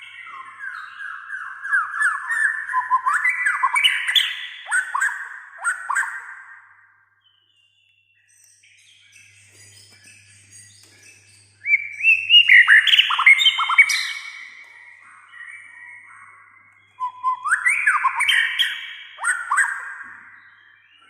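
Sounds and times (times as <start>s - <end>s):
bird whistling song: 0.0s - 21.0s
faint bird twittering: 0.0s - 21.0s.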